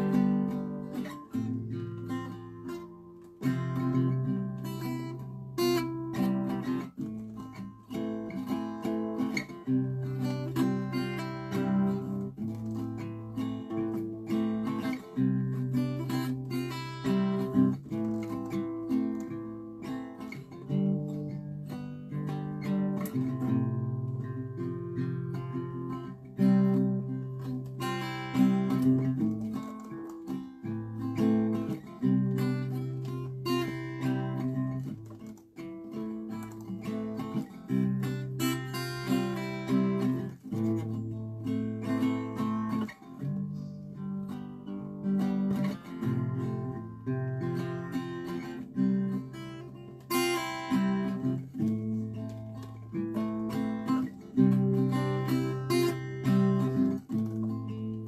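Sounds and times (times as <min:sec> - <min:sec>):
acoustic guitar strummed chords: 0:00.0 - 0:58.0.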